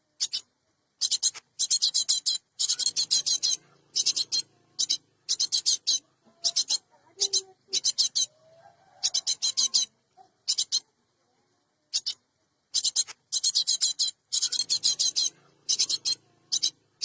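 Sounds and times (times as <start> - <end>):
tit harsh high-pitched calls: 0.2 - 10.9, 11.9 - 17.0.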